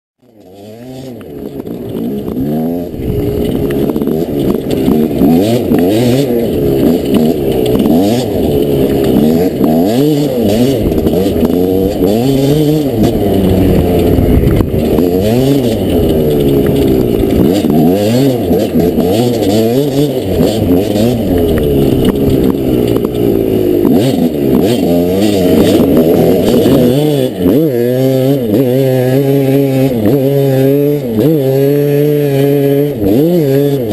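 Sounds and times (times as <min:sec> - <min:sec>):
dirt bike engine revving: 0:00.2 - 0:33.9.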